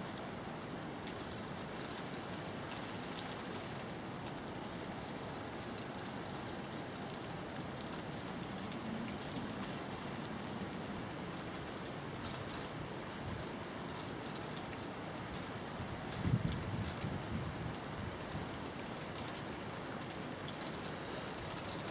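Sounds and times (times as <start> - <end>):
steady rain falling: 0.0 - 21.9.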